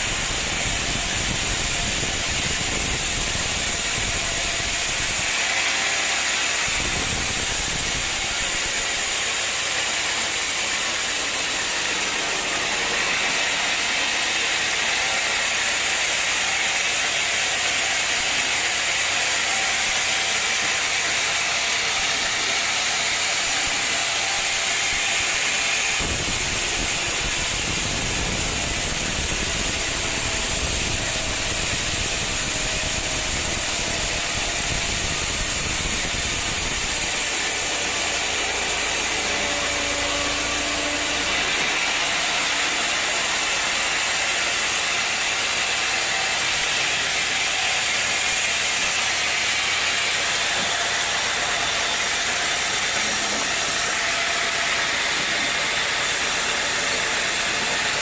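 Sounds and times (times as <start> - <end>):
saw hissing through log: 0.0 - 58.0.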